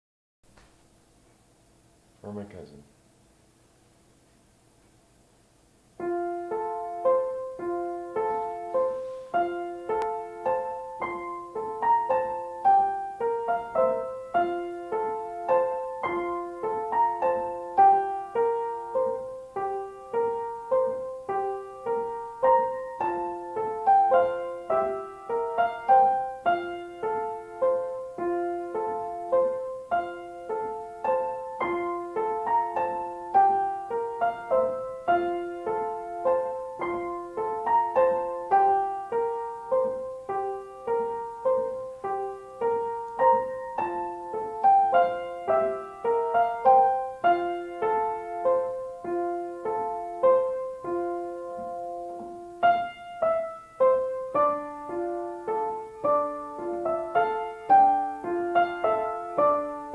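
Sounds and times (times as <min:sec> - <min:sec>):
grand piano playing: 0:06.0 - 0:59.9.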